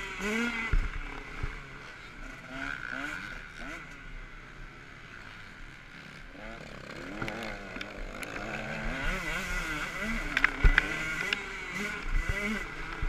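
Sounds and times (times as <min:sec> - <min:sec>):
motocross bike engine revving: 0:00.0 - 0:04.4, 0:05.0 - 0:13.0.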